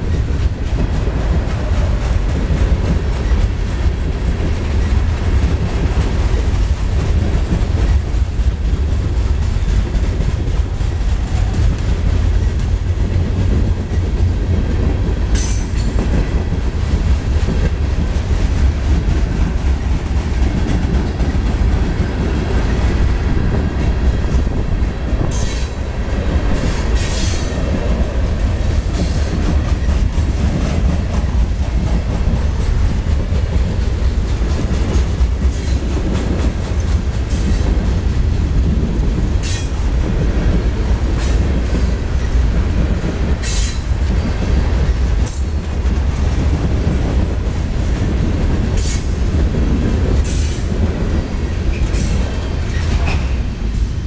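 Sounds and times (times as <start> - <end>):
heavy train wheel rumble: 0.0 - 54.0.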